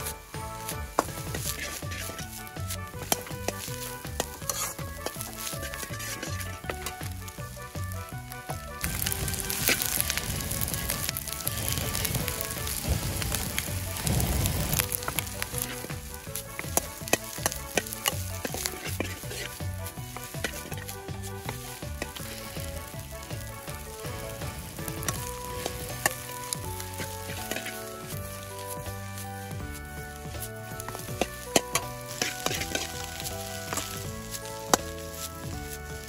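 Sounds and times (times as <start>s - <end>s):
rice sizzling in a wok: 0.0s - 36.0s
wok tossing and scraping clicks: 0.0s - 36.0s.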